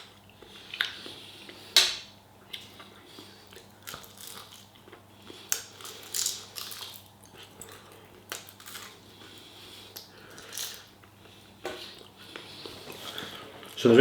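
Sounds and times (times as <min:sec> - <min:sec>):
person chewing food: 0:00.0 - 0:13.8.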